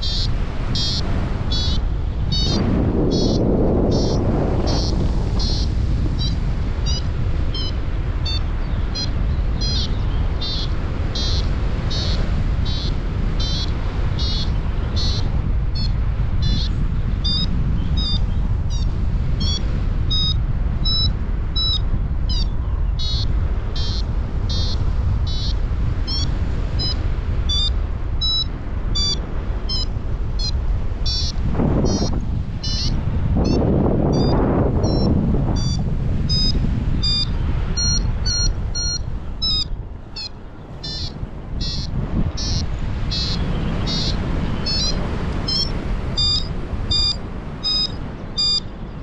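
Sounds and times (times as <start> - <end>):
variometer beeping: 0.0 - 48.7
wind on microphone: 0.0 - 49.0.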